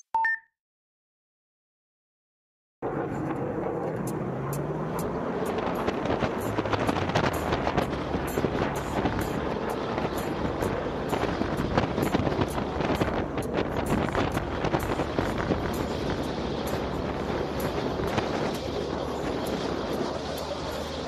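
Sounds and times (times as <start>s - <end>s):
vehicle engine running: 2.8s - 21.0s
wind rushing over microphone: 2.8s - 21.0s.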